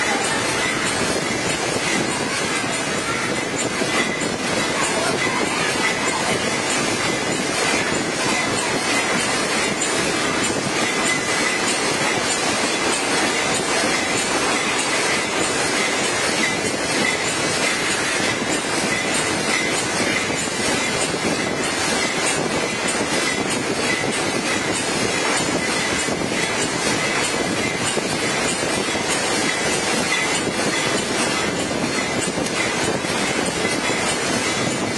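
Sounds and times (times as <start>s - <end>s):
machine mechanical clatter: 0.0s - 34.9s.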